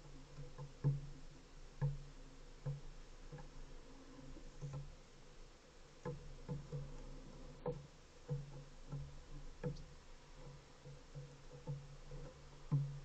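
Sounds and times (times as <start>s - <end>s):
pigeon pecking on wooden railing: 0.0s - 13.0s.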